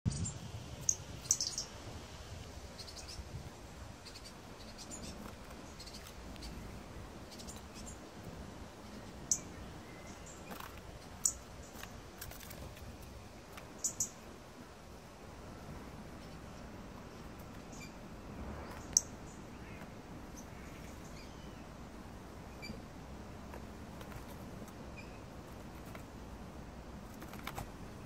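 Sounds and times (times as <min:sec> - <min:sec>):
small bird chirping: 0:00.1 - 0:14.3, 0:16.1 - 0:21.8, 0:22.4 - 0:22.9, 0:23.5 - 0:26.0.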